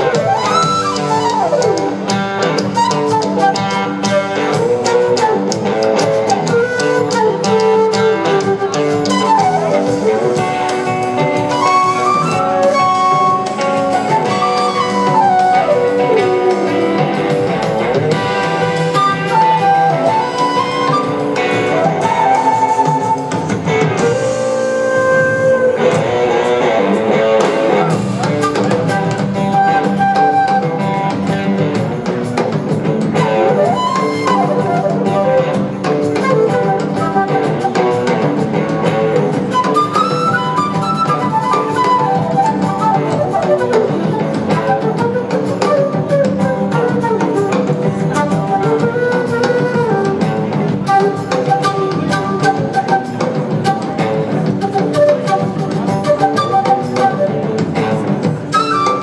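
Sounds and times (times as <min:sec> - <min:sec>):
lead guitar with gliding notes: 0:00.0 - 0:59.0
live band playing blues-rock: 0:00.0 - 0:59.0.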